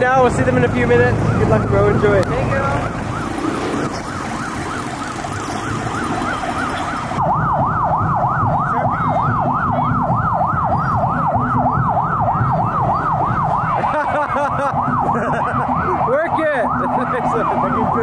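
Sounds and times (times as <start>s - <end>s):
ambulance siren yelping: 0.0s - 18.0s.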